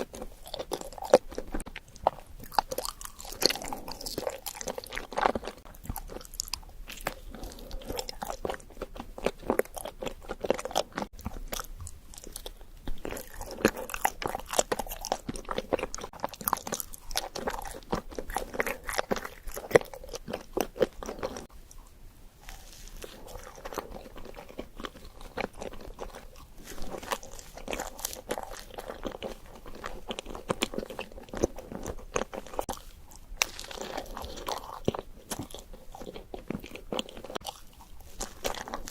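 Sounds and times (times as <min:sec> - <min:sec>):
crunching: 0:00.0 - 0:38.9
person biting and chewing: 0:00.0 - 0:38.9.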